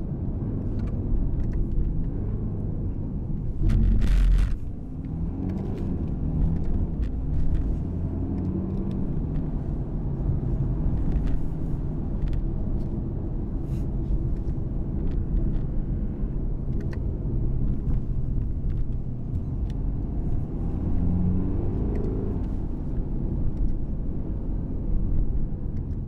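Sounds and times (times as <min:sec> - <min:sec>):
car engine heard from cabin: 0:00.0 - 0:26.0
road rumble: 0:00.0 - 0:26.0.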